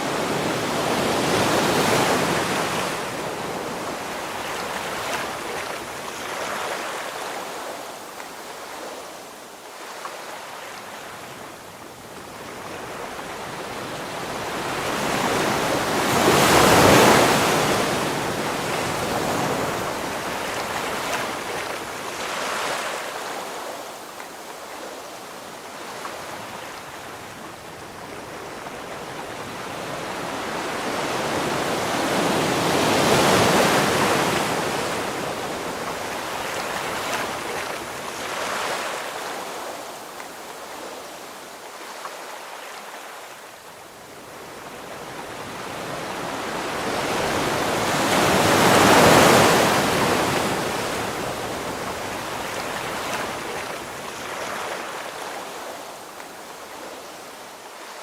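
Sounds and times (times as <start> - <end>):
ocean waves crashing: 0.0 - 9.2, 12.4 - 43.4, 44.2 - 58.0.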